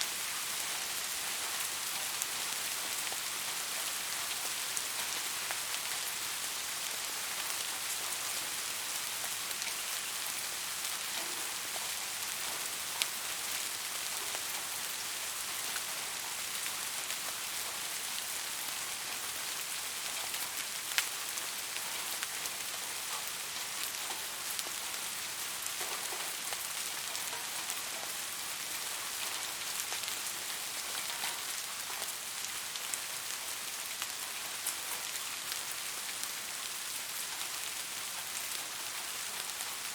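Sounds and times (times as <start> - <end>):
soft rain: 0.0 - 39.9.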